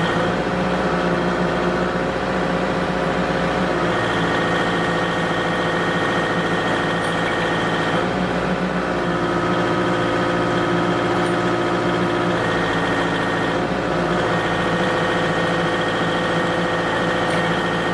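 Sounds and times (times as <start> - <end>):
forklift engine running: 0.0 - 17.9
hydraulics whining: 0.0 - 17.9.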